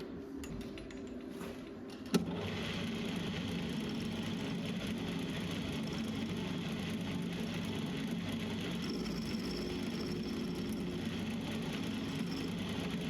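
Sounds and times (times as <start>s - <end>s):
lathe motor humming and whining: 2.2s - 13.0s.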